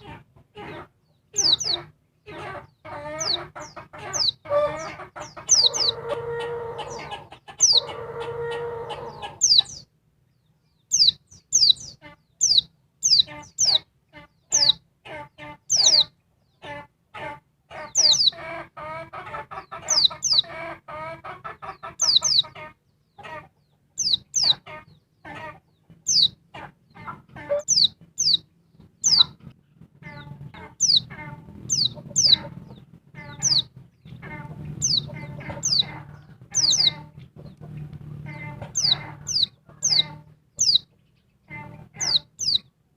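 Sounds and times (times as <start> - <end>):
bird chattering: 0.0 - 9.9, 10.9 - 16.8, 17.7 - 18.6, 19.5 - 20.7, 21.6 - 23.3, 24.0 - 28.4, 29.0 - 29.4, 30.0 - 42.7
drawn-out lower bird calls: 0.0 - 9.9, 10.8 - 14.8, 15.4 - 16.8, 17.8 - 18.6, 19.5 - 20.7, 21.6 - 42.8.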